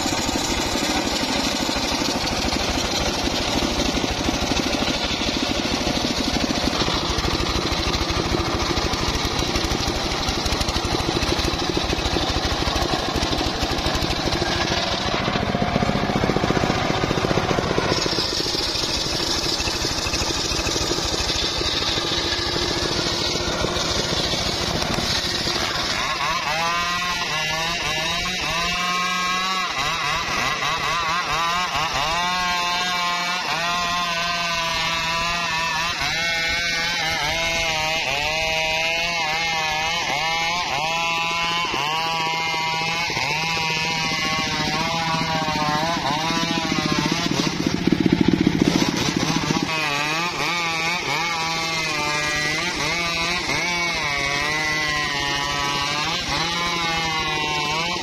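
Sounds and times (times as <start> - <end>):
engine pulsing: 0.0 - 38.0, 39.0 - 58.0
circular saw blade ripping logs: 0.0 - 58.0.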